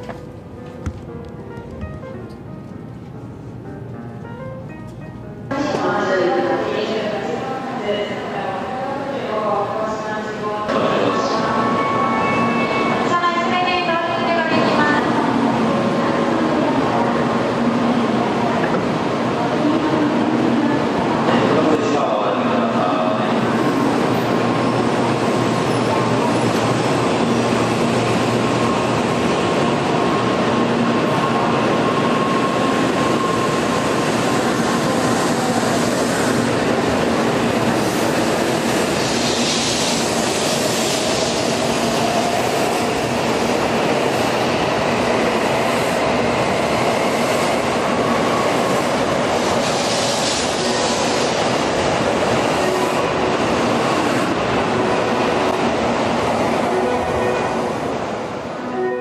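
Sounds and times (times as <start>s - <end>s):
train rushing past: 0.0s - 59.0s.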